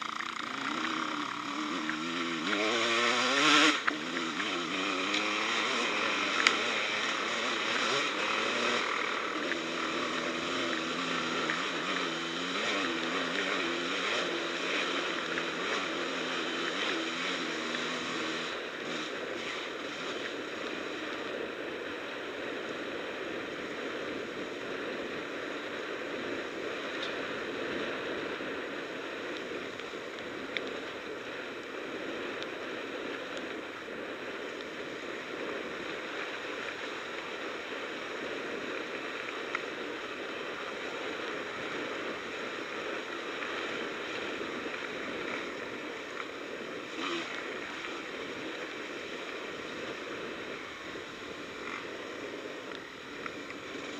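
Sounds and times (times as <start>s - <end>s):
quad riding on dirt track: 0.0s - 53.9s.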